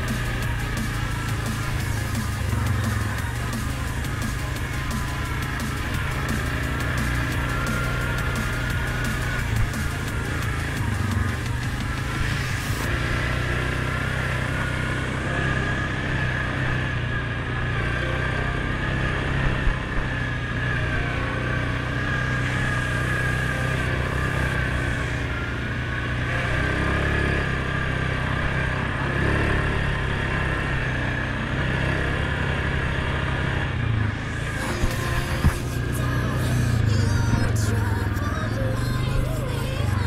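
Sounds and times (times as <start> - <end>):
atv engine running: 0.0 - 40.0
high whine: 0.0 - 40.0.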